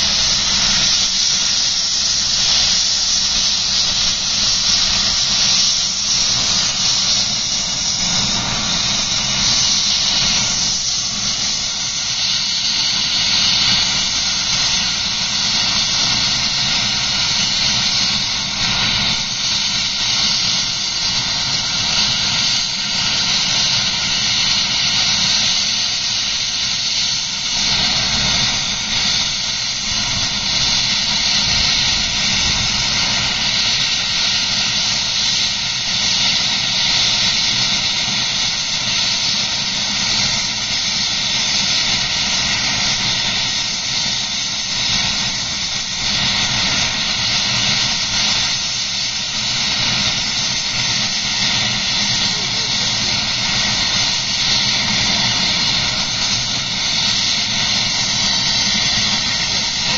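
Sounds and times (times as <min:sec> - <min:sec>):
helicopter turbine whine: 0:00.0 - 0:59.9.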